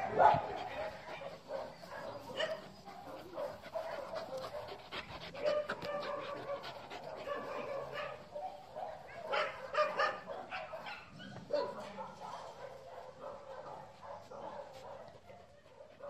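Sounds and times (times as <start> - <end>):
dog barking: 0.0 - 4.8, 5.4 - 16.0.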